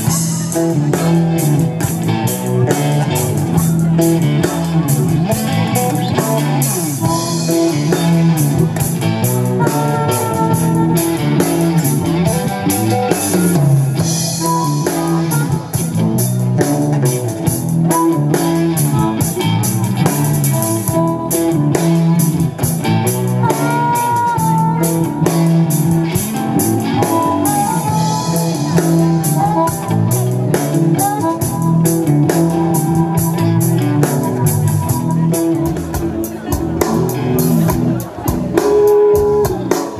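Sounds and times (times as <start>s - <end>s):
bass guitar: 0.0s - 39.9s
drum kit with cymbal hits: 0.0s - 39.9s
electric guitar: 0.0s - 39.9s.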